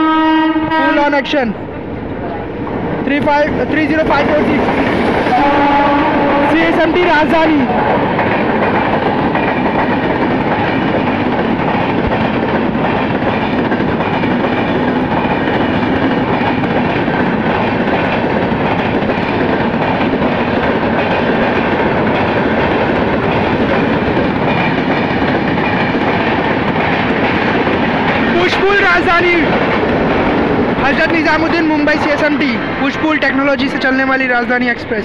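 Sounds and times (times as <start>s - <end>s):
train wheels clattering on rails: 3.1s - 32.6s.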